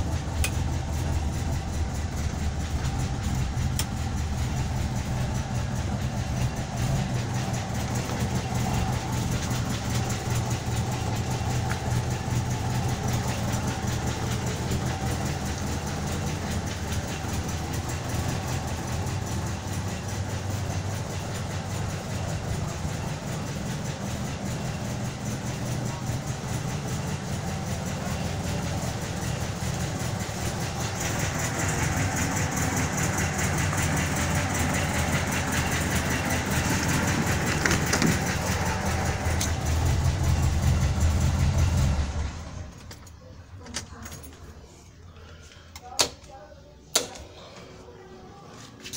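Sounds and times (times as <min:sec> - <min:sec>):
van engine idling: 0:00.0 - 0:45.9.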